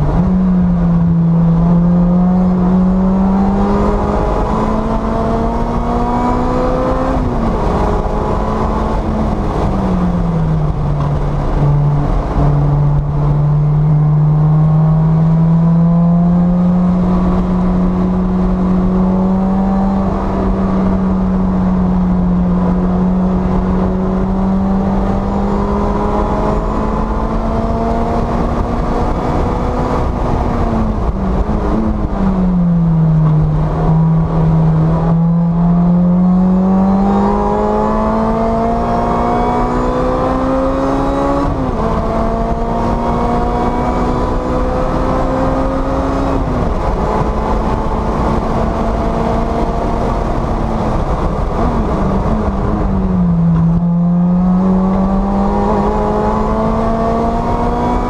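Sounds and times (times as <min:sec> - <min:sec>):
car engine revving: 0:00.0 - 0:58.0
wind noise: 0:00.0 - 0:58.0.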